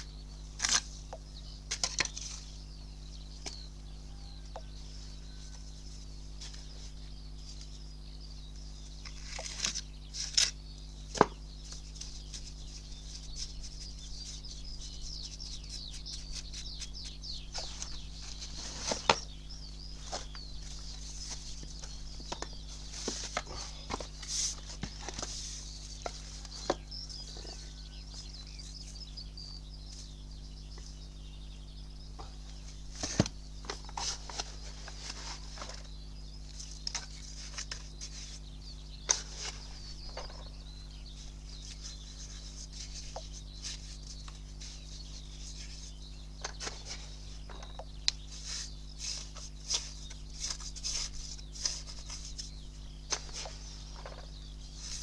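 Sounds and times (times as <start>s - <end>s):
faint high-pitched chirping: 0.0s - 55.0s.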